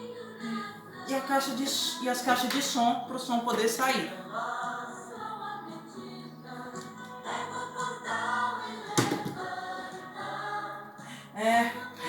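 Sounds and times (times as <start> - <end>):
music with choir singing: 0.0 - 12.0.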